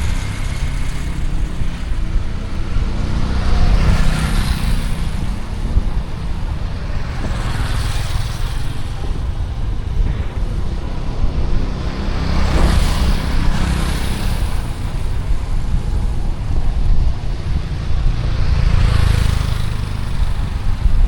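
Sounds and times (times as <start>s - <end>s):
motor vehicles passing: 0.0s - 21.0s
steady low traffic rumble: 0.0s - 21.0s.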